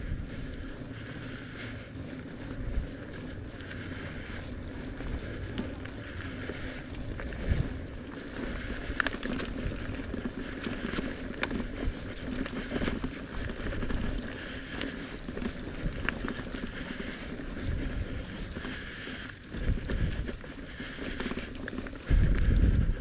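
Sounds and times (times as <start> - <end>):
bike clicks and rattles: 0.0 - 23.0
bike tyres rolling on dirt: 0.0 - 23.0.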